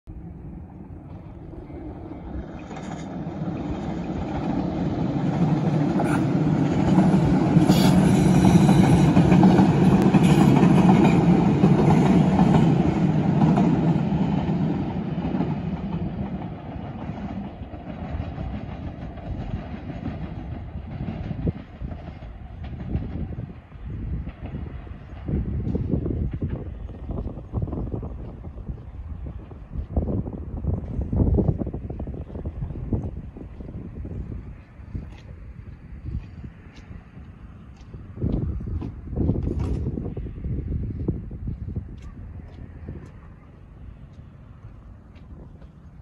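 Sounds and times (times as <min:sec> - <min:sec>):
diesel train passing: 0:00.1 - 0:46.0.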